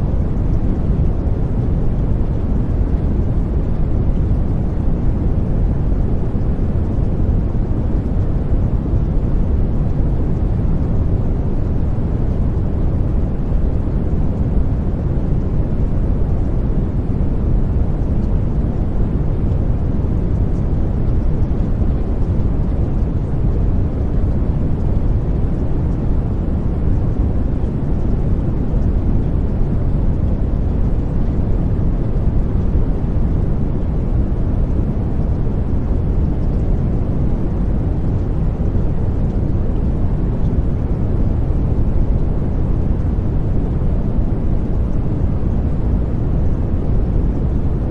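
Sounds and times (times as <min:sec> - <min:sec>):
steady low rumbling noise: 0:00.0 - 0:47.9.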